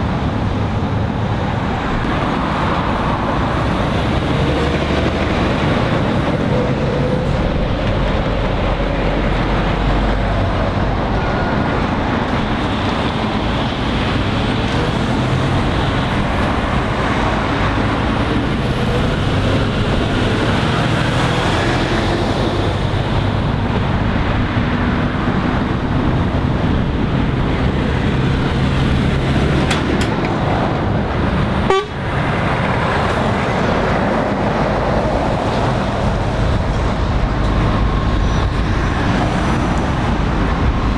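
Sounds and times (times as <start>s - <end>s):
diesel lorry engines: 0.0s - 40.9s
tyres on road: 0.0s - 40.9s.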